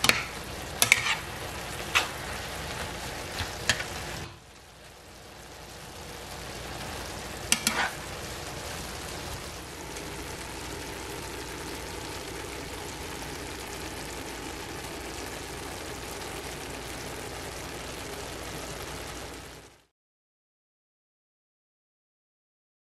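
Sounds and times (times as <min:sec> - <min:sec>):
noodles sizzling in frying pan: 0:00.0 - 0:19.9.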